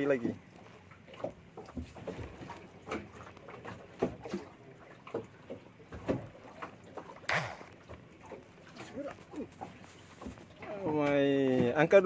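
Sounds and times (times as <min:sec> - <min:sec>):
water slapping at hull: 0:00.0 - 0:12.0.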